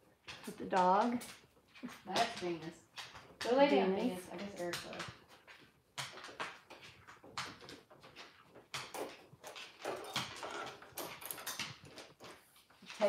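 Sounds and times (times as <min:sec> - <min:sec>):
footsteps on hard floor: 0:00.4 - 0:13.0.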